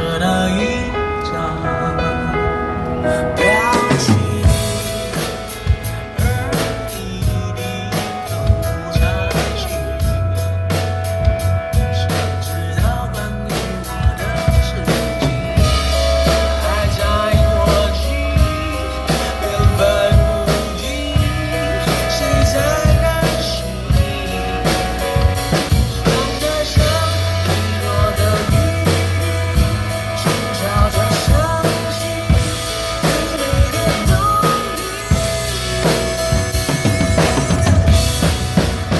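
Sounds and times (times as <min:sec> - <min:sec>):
pop backing track: 0:00.0 - 0:38.9
drum kit playing a steady beat: 0:03.4 - 0:38.9.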